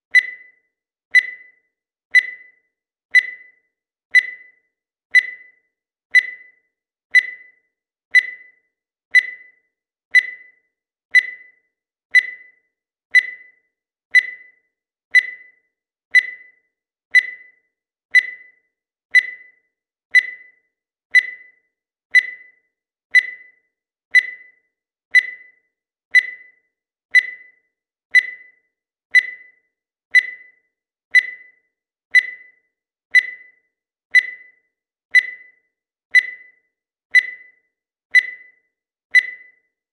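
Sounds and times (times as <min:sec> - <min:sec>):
digital timer beeping: 0:00.0 - 0:39.9.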